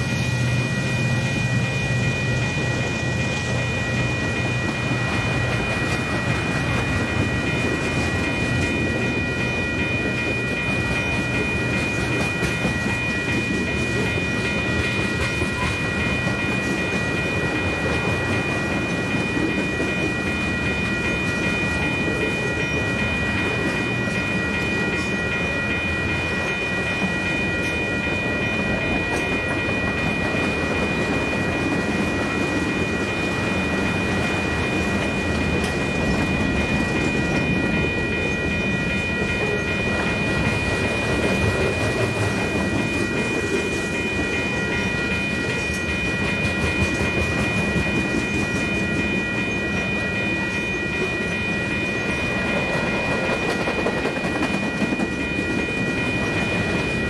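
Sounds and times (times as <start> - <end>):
high-pitched ringing tone: 0.0 - 57.0
train rumbling and rattling: 0.0 - 57.0.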